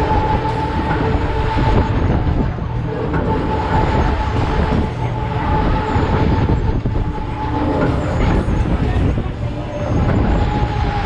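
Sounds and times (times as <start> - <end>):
fairground ride rumble and rattle: 0.0 - 11.0
steady high tone: 0.0 - 11.0.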